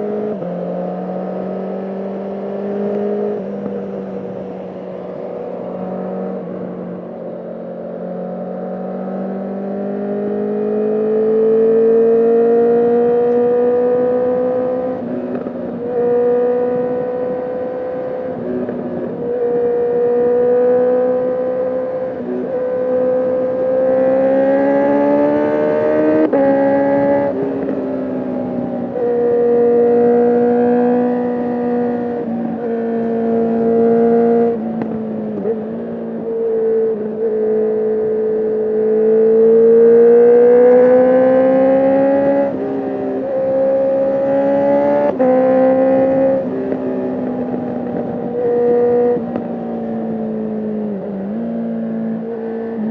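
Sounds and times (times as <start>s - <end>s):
motorcycle engine revving: 0.0s - 4.6s, 7.8s - 52.9s.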